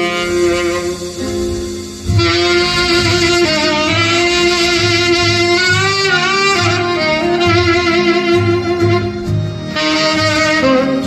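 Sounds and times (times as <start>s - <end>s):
backing accompaniment with bass beat: 0.0s - 11.0s
saxophone ballad melody: 0.0s - 11.0s.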